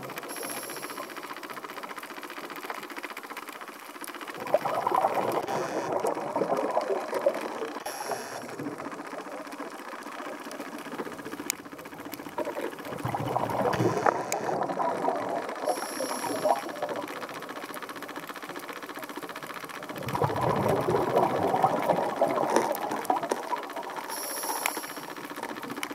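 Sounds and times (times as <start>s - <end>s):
faint steady crackle: 0.0s - 25.9s
regulator exhaust bubbles underwater: 4.1s - 25.9s.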